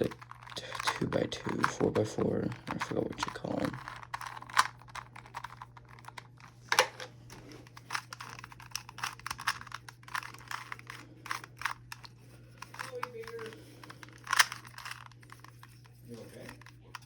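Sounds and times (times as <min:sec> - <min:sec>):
puzzle cube clicking and clacking: 0:00.0 - 0:06.3, 0:07.7 - 0:17.0.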